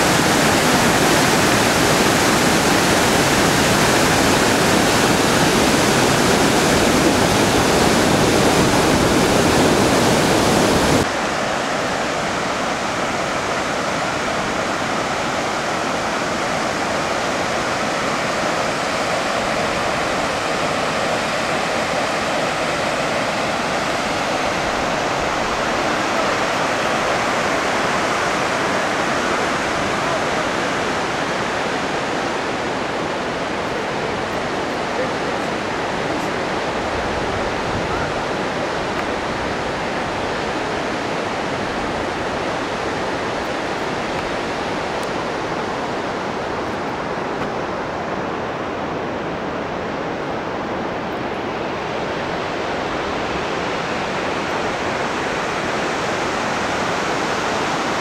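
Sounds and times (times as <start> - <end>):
water rushing over rocks: 0.0 - 58.0.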